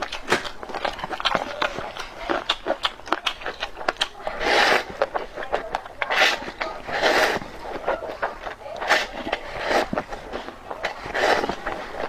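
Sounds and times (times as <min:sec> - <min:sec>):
wet chewing smacks: 0:00.0 - 0:12.0.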